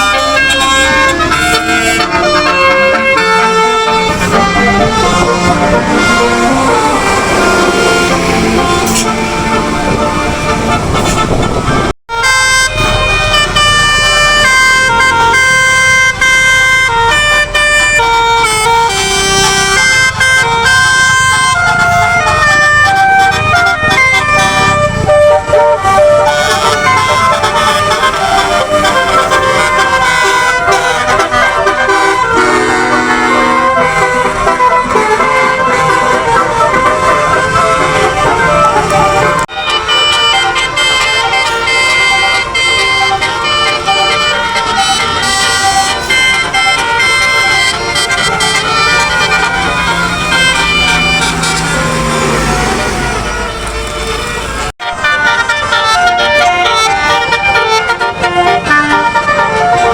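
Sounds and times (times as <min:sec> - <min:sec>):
multi-tone air horn tune: 0:00.0 - 0:59.9.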